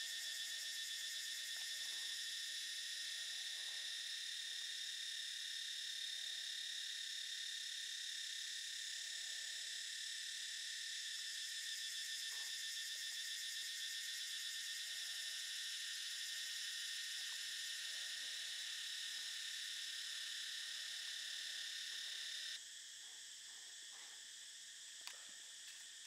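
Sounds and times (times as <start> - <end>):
shrill insect chorus: 0.0 - 26.0.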